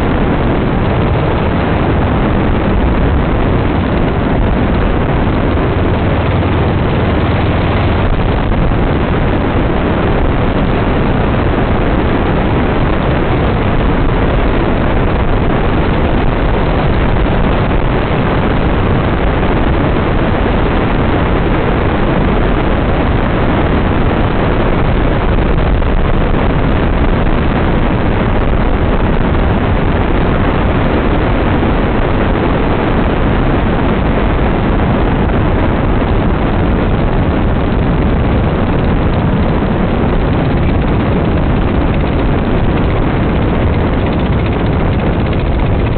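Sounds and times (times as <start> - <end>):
off-road vehicle engine rumble: 0.0 - 45.9.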